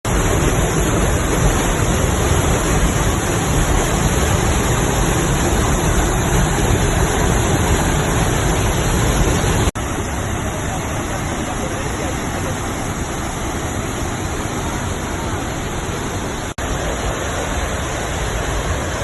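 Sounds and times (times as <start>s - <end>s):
waterfall roaring: 0.1s - 19.0s.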